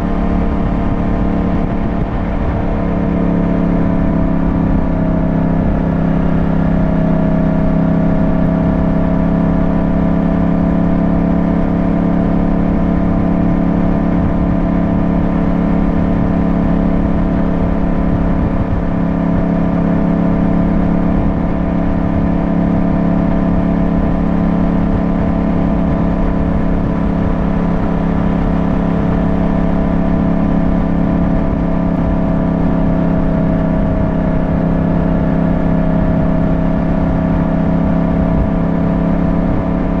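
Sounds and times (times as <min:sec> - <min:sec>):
motorcycle engine cruising: 0:00.0 - 0:40.0
wind noise on microphone: 0:00.0 - 0:40.0.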